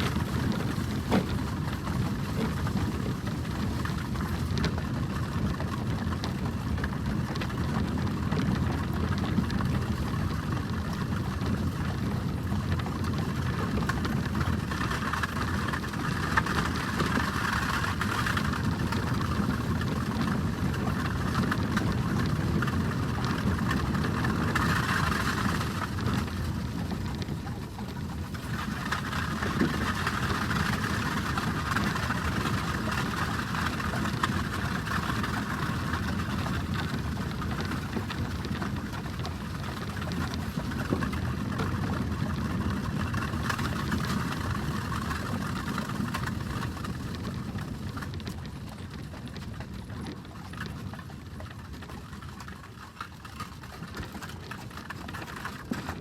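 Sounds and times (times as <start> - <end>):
stagecoach wheels rumbling: 0.0 - 54.9.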